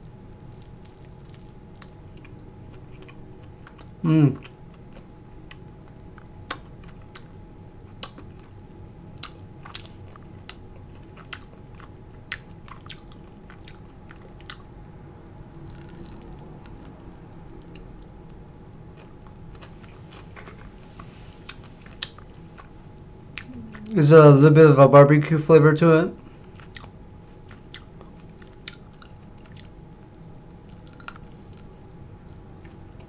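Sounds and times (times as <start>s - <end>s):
crunchy chewing of fried chicken: 0.0s - 23.9s, 26.2s - 33.0s
faint steady hum: 0.0s - 33.0s.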